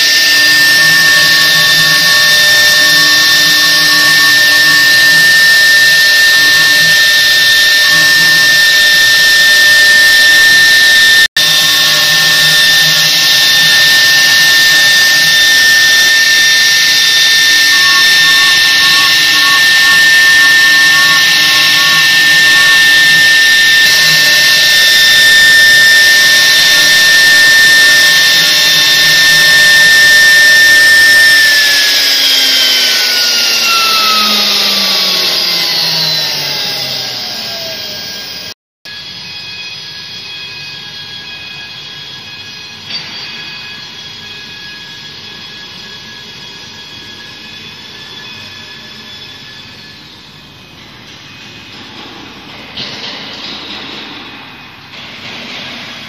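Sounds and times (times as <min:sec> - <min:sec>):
cnc router spindle whine: 0:00.0 - 0:56.0.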